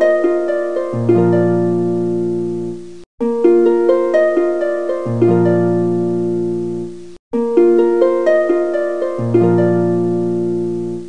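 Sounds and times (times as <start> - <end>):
plucked harp-like notes: 0.0 - 11.0.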